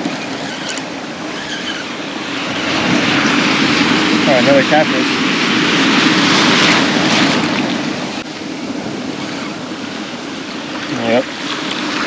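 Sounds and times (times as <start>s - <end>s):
ocean surf washing up beach: 0.0s - 12.0s
wind buffeting microphone: 0.0s - 12.0s.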